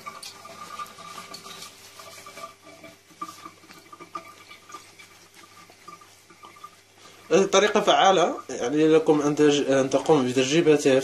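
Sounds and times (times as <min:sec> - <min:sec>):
water drips: 0:00.0 - 0:10.1.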